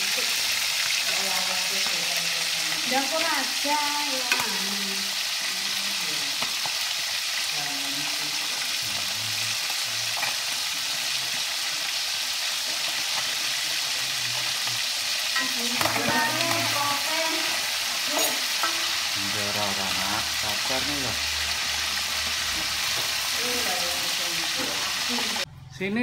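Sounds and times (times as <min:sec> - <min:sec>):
fish frying in hot oil: 0:00.0 - 0:25.5.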